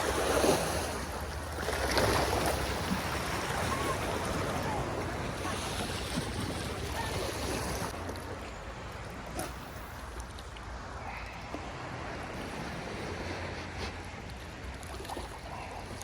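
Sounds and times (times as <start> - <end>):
sea waves washing: 0.0 - 16.0.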